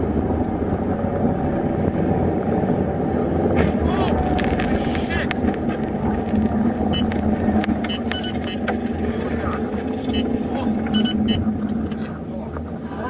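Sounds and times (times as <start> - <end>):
car engine: 0.0 - 13.0
road noise: 0.0 - 13.0
wind noise: 0.0 - 13.0.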